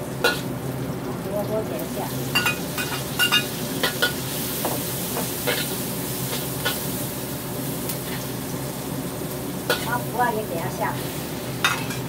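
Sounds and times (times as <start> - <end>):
oil sizzling in a wok: 0.0 - 12.0.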